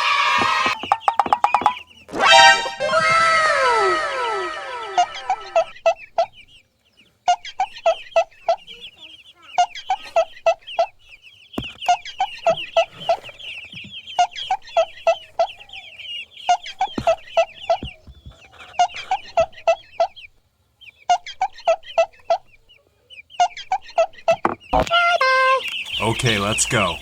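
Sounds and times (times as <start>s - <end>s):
chickens clucking: 0.0s - 27.0s
chicks cheeping: 0.0s - 27.0s.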